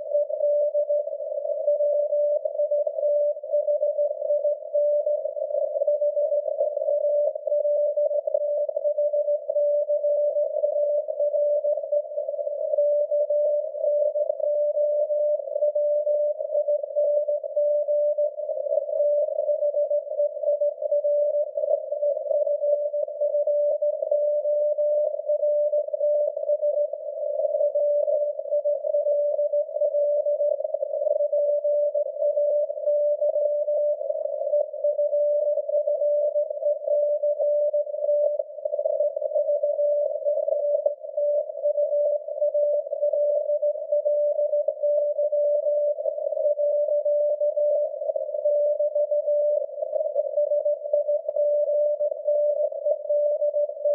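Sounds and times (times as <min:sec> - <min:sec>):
thin steady radio tone: 0:00.0 - 0:53.9.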